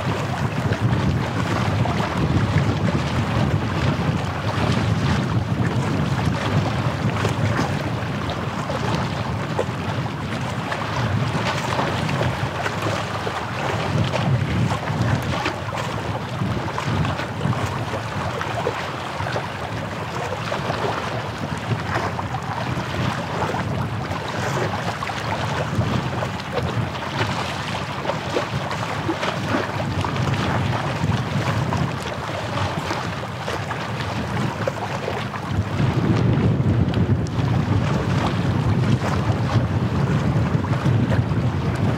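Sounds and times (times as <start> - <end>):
small waves washing on shore: 0.0 - 41.9
wind buffeting microphone: 0.0 - 41.9.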